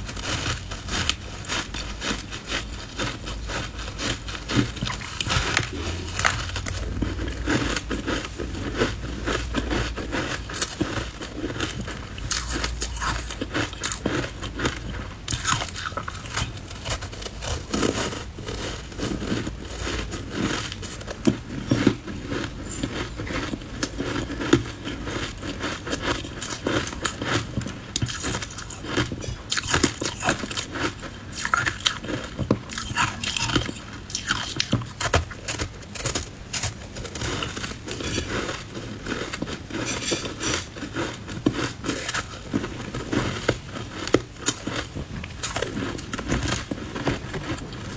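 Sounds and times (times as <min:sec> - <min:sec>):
ice crunching between teeth: 0:00.0 - 0:47.9.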